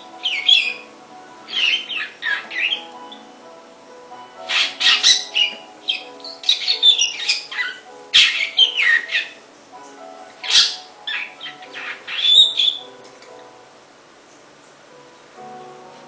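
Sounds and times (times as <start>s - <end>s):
songbird chirping and whistling: 0.0s - 13.6s
quiet background music: 0.0s - 16.0s.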